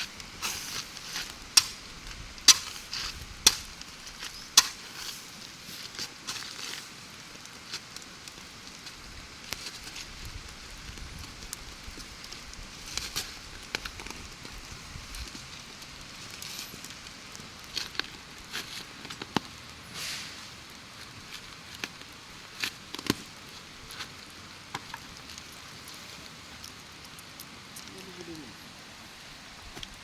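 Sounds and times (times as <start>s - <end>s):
rain hiss: 0.0s - 30.0s.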